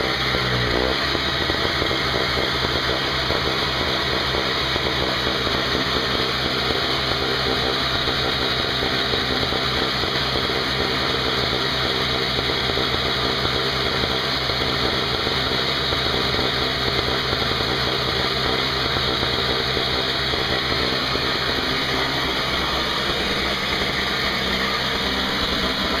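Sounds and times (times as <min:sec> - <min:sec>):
two-stroke snowblower engine running: 0:00.0 - 0:26.0.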